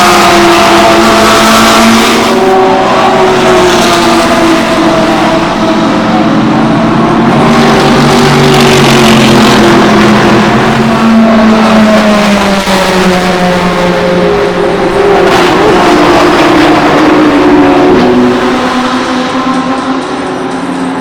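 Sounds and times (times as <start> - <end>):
race car engines at speed: 0.0 - 21.0.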